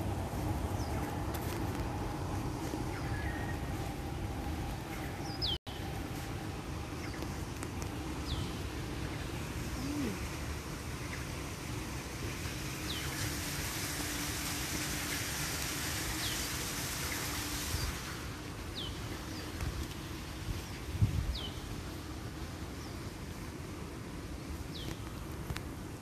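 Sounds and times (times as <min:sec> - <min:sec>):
outdoor background hum: 0:00.0 - 0:26.0.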